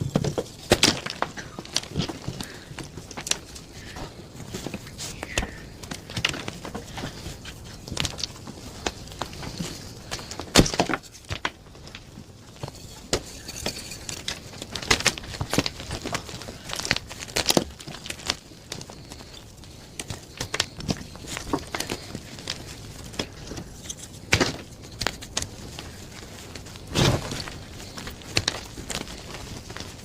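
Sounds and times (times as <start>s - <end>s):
soft powdery rustle: 1.3s - 30.0s.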